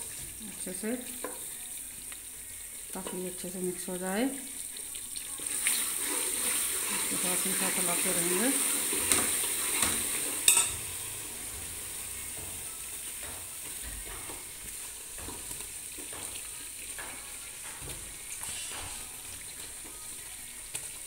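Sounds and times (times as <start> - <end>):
flour sizzling in ghee: 0.0 - 21.0.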